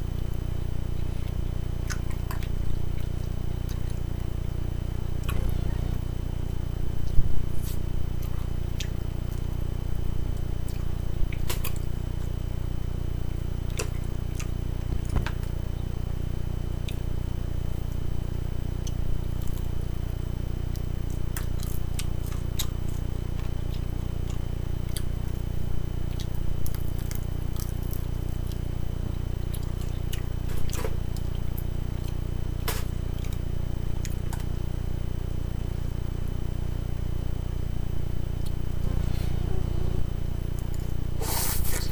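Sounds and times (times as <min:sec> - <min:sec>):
steady low hum: 0:00.0 - 0:41.9
soft wet chewing: 0:00.9 - 0:18.1, 0:18.7 - 0:34.7, 0:38.3 - 0:39.6.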